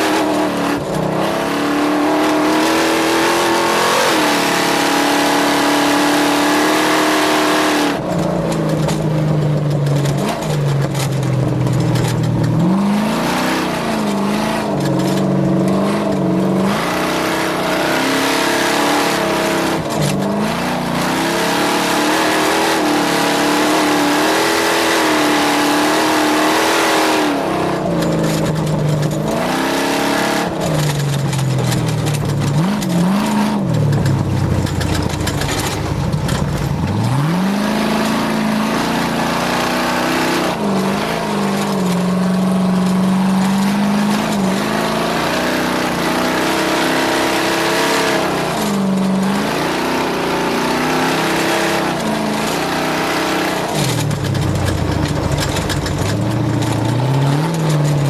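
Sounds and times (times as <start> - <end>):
racing engine revving: 0.0 - 58.0.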